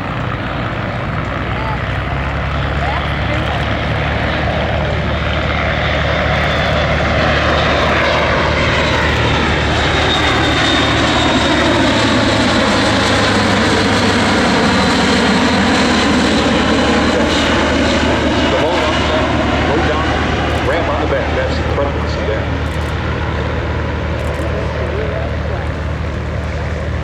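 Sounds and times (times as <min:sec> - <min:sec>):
turboprop aircraft droning past: 0:00.0 - 0:27.0.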